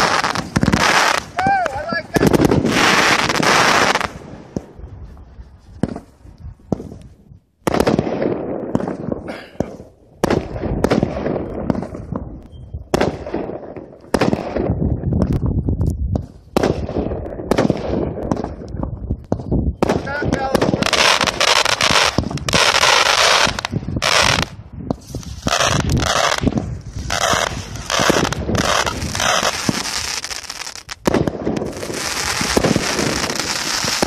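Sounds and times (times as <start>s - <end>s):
fireworks crackling and banging: 0.0s - 5.2s, 5.8s - 34.0s.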